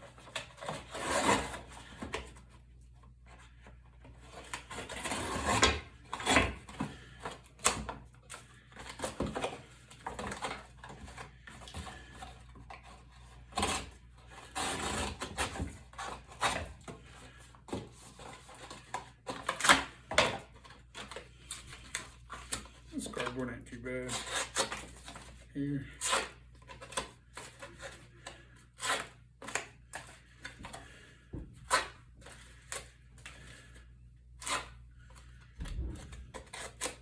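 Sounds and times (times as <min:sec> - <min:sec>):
knife cutting cardboard: 0:00.1 - 0:02.4, 0:04.2 - 0:22.8, 0:24.1 - 0:30.8, 0:31.6 - 0:33.6, 0:34.4 - 0:34.8, 0:35.9 - 0:37.0.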